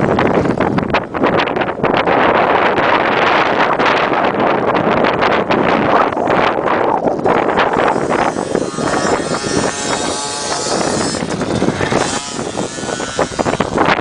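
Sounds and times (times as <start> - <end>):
wind buffeting microphone: 0.0 - 14.0
dirt bike engine revving: 2.6 - 14.0.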